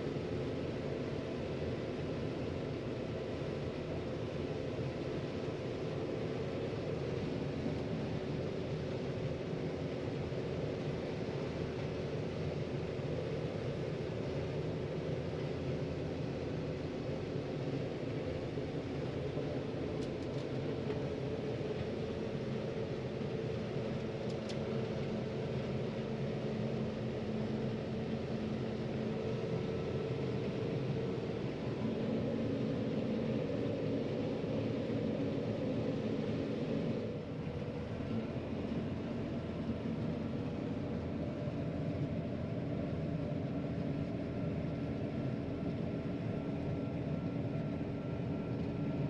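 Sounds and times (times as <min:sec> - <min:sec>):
combine harvester low drone: 0:00.0 - 0:49.0.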